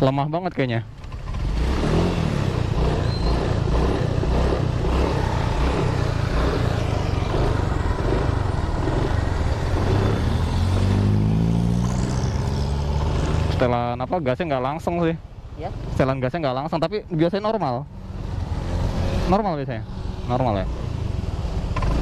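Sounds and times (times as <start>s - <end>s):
scooter engine running and revving: 1.0s - 13.8s, 17.2s - 22.0s.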